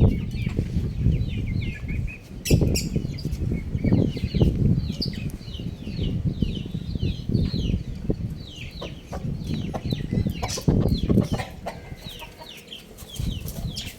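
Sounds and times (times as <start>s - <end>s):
chickens chirping: 0.0s - 13.9s.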